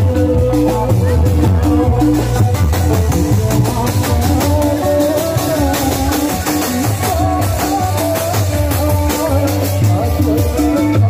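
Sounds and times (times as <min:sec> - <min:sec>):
electric bass: 0:00.0 - 0:11.0
electric guitars melody: 0:00.0 - 0:11.0
steady drum beat: 0:00.0 - 0:11.0.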